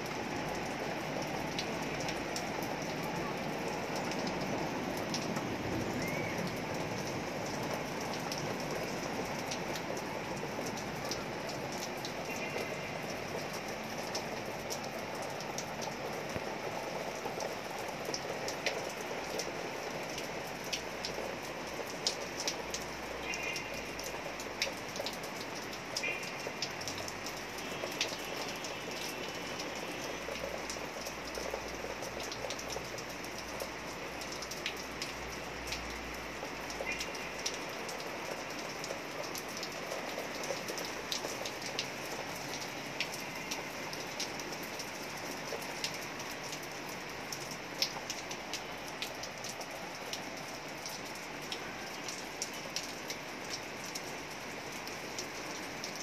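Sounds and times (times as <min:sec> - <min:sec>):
heavy rain: 0:00.0 - 0:56.0
raindrops ticking on hard surfaces: 0:00.0 - 0:56.0.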